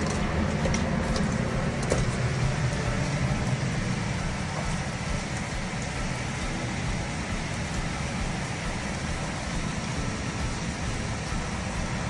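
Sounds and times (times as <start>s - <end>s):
low rumble: 0.0s - 12.0s
wind: 0.0s - 12.0s.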